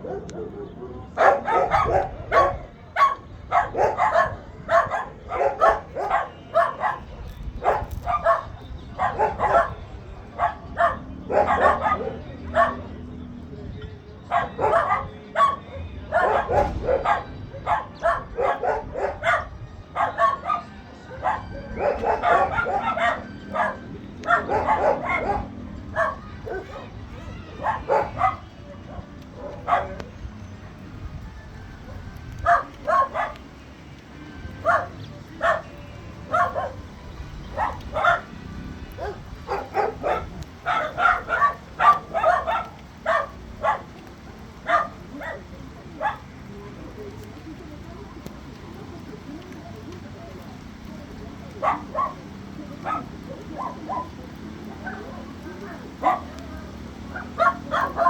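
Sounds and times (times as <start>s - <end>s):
dog barking and yipping: 0.0s - 12.9s, 14.3s - 30.2s, 31.9s - 33.6s, 34.5s - 46.3s, 51.4s - 58.0s.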